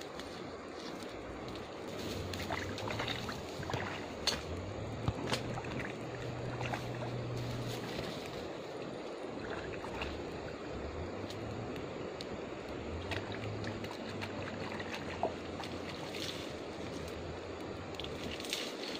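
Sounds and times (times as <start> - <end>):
low rushing water: 0.0 - 18.9
river water sloshing and splashing: 0.0 - 18.9.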